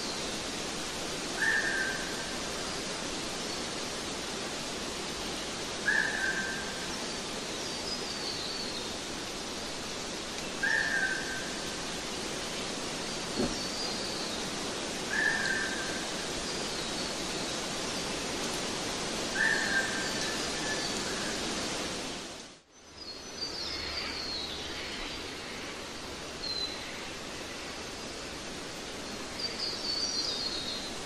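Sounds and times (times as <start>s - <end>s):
steady rushing hiss: 0.0s - 31.0s.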